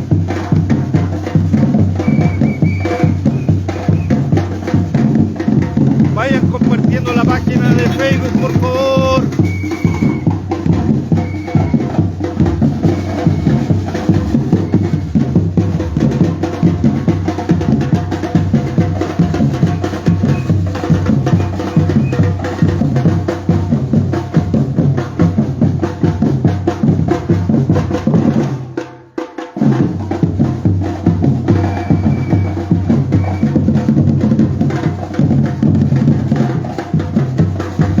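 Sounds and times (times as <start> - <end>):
bass drums: 0.0 - 28.8, 29.6 - 38.0
snare drums: 0.0 - 38.0.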